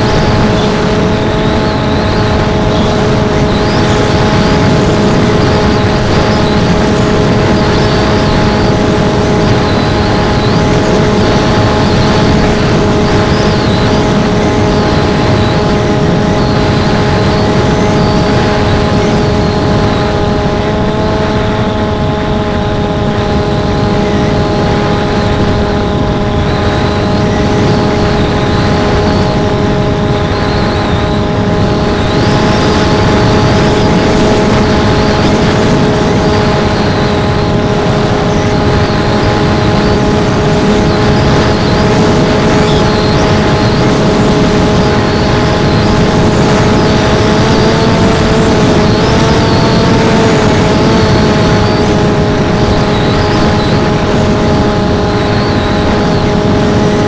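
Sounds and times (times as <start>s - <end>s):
electric motor and propeller whining: 0.0s - 57.0s
heavy wind rush: 0.0s - 57.0s.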